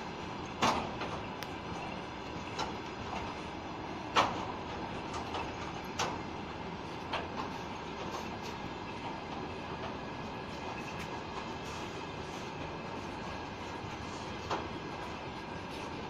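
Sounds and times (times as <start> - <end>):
freight train rumbling past: 0.0 - 16.0
wheels clanking over rail joints: 0.1 - 16.0.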